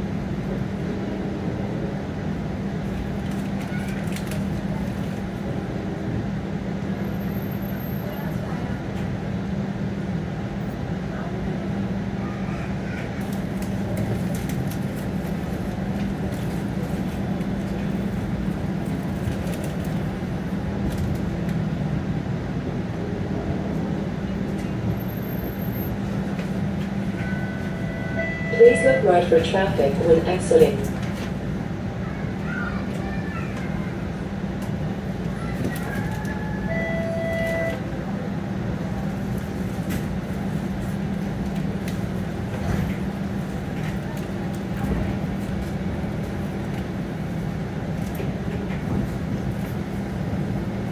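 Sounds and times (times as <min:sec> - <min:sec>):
wheels rumbling on rails: 0:00.0 - 0:50.9.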